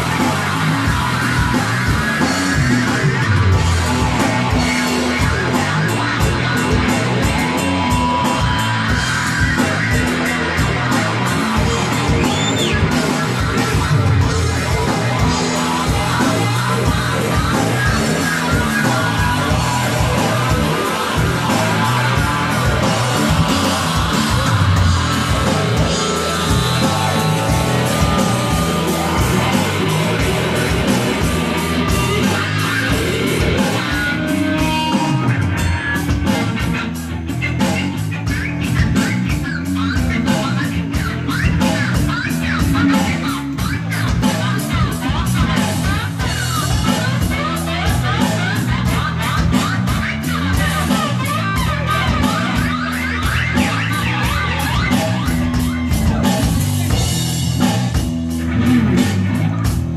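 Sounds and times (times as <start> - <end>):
distorted electric guitar: 0.0 - 59.9
drum kit: 0.0 - 59.9
live rock band playing: 0.0 - 59.9.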